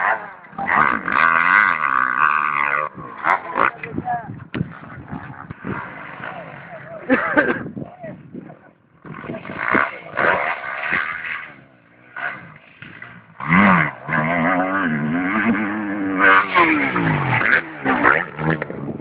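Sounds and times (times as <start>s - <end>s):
motocross bike engine revving: 0.0s - 7.8s, 8.5s - 19.0s.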